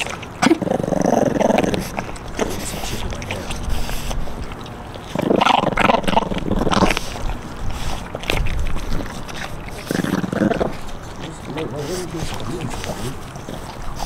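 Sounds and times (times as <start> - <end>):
puppies growling: 0.0 - 14.0
chewing clicks: 1.2 - 14.0.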